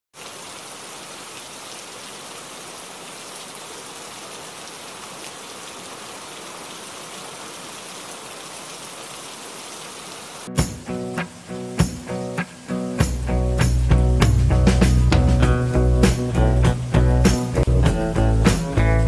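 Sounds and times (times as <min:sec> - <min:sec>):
rain falling on wet pavement: 0:00.2 - 0:14.5, 0:15.8 - 0:18.8.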